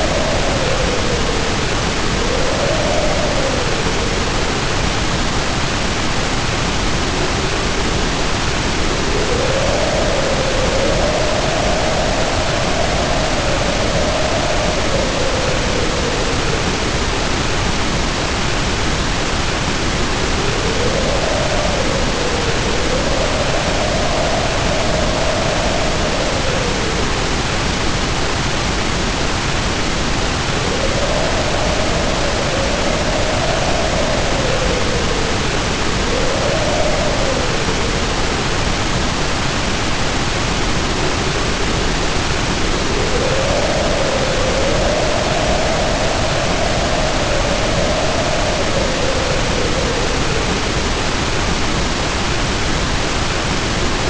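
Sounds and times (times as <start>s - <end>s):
heavy rain pouring: 0.0s - 54.0s
wind howling: 0.0s - 54.0s.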